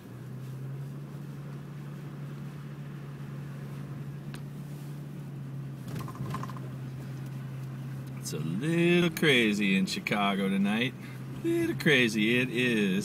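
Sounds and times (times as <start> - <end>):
engine tyre and wind noise: 0.0 - 13.0
low cabin hum: 0.0 - 13.0.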